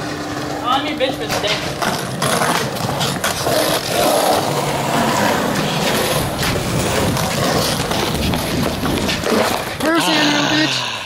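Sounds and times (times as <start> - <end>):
skateboard wheels rolling: 0.0 - 10.5.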